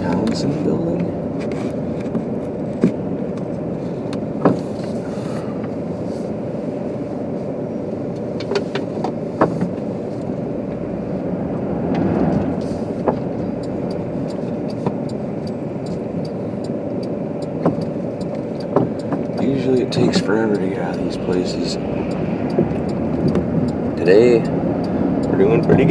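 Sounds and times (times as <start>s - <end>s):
car engine and road noise: 0.0s - 25.9s.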